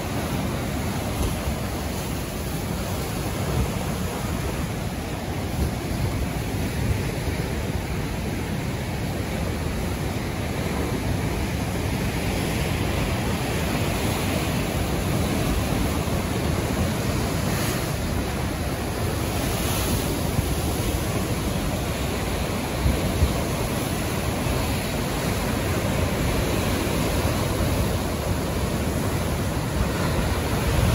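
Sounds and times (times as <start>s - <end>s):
ocean surf breaking on rocks: 0.0s - 30.9s.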